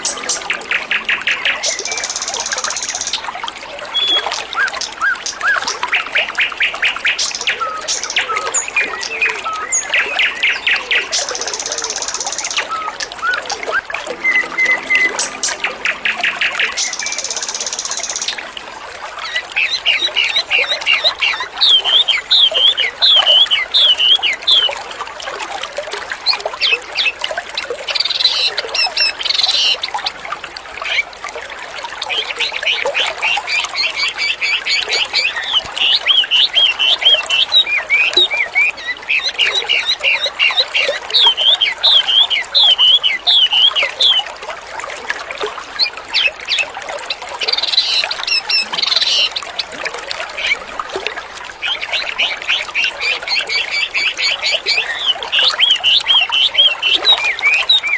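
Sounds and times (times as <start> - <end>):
songbird chirping and trilling: 0.0 - 18.5, 19.3 - 24.8, 32.1 - 44.3, 45.8 - 49.8, 51.6 - 57.9
water trickling: 0.0 - 57.9.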